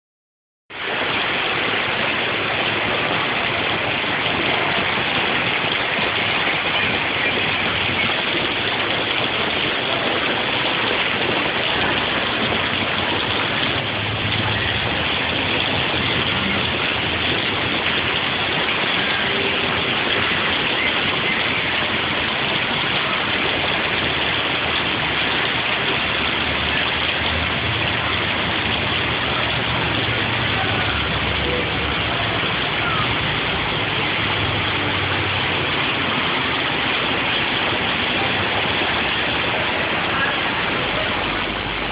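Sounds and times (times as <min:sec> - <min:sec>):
floodwater flowing: 0:00.7 - 0:41.9
heavy rain: 0:00.7 - 0:41.9
vehicle engine hum: 0:00.9 - 0:41.9.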